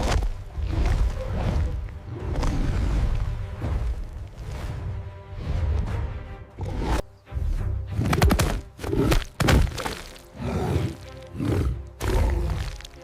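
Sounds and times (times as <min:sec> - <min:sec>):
dramatic film score music: 0:00.0 - 0:13.0.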